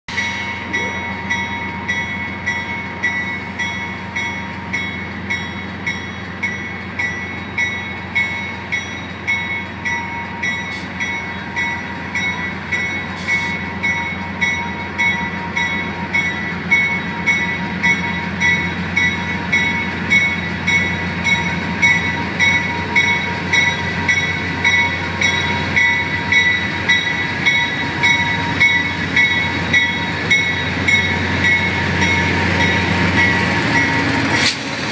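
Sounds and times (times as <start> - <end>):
locomotive bell ringing: 0.1 - 34.9.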